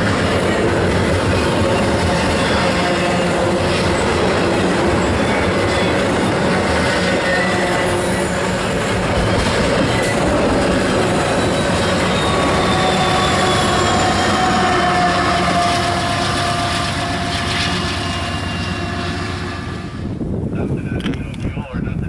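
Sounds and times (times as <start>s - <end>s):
wheels squealing: 0.0s - 20.2s
freight train rumbling on rails: 0.0s - 22.0s.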